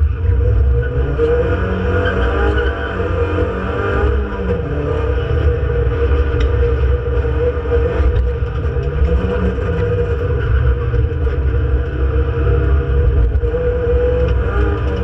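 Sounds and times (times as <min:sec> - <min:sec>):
car engine running hard: 0:00.0 - 0:15.0
road rumble: 0:00.0 - 0:15.0.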